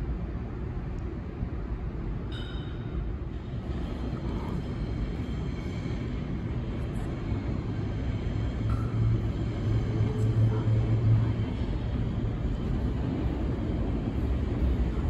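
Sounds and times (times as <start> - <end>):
subway train rumble in tunnel: 0.0 - 15.0.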